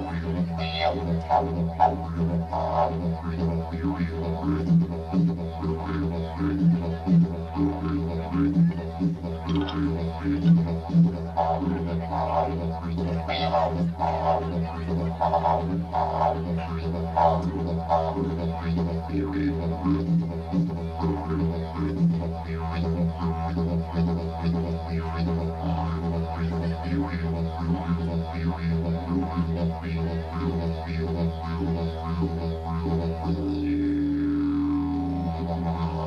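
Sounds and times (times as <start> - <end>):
didgeridoo drone: 0.0 - 36.0.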